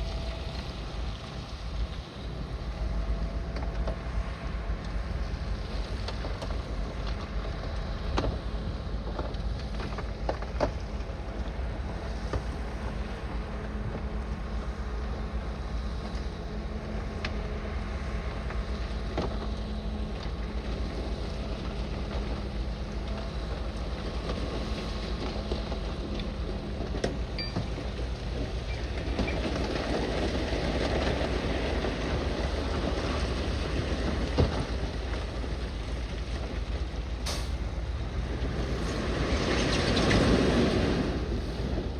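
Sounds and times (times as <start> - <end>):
bulldozer diesel engine running: 0.0 - 41.9.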